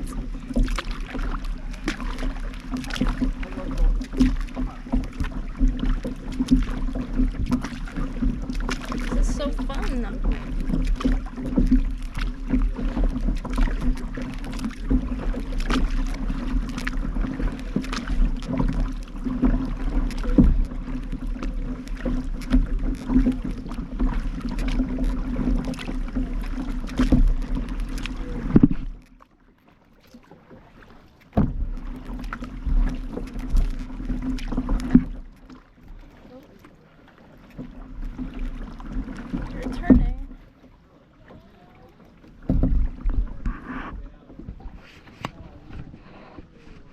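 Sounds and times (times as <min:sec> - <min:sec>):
paddle knocks and clicks: 0:00.0 - 0:46.9
water noise: 0:00.0 - 0:46.9.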